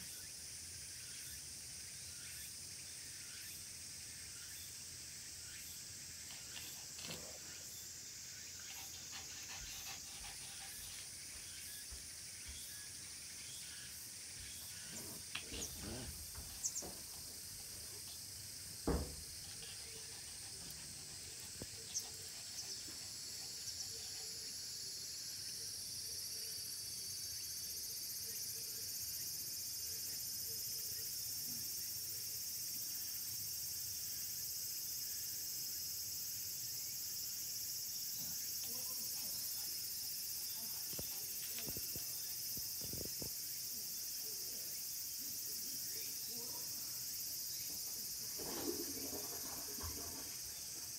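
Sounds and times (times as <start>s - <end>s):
insect chorus shrilling: 0.0s - 50.9s.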